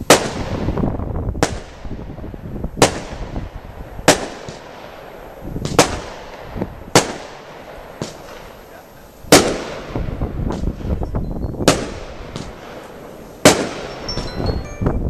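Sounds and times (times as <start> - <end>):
firework bangs: 0.0 - 14.6.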